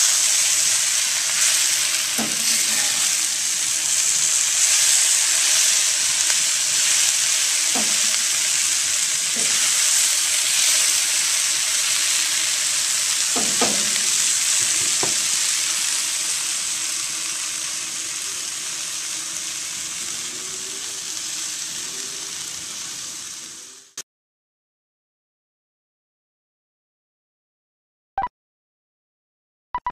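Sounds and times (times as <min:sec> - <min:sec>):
food sizzling in a skillet: 0:00.0 - 0:24.0.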